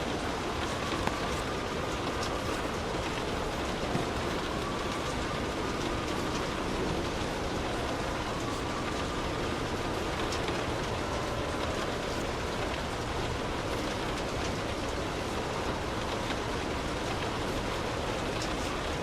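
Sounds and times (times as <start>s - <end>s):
light rain on a car: 0.0s - 19.0s
raindrop ticking: 0.0s - 19.0s.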